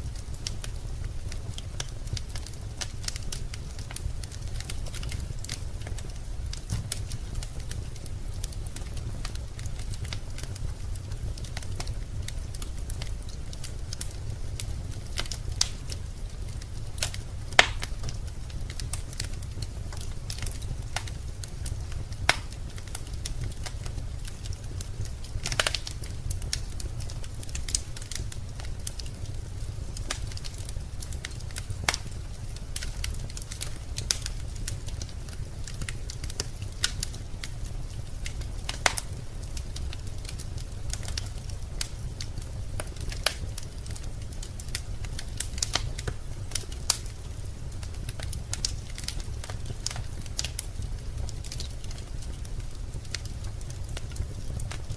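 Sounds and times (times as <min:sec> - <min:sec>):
low fire rumble: 0:00.0 - 0:54.9
wood fire crackling and popping: 0:00.0 - 0:54.9.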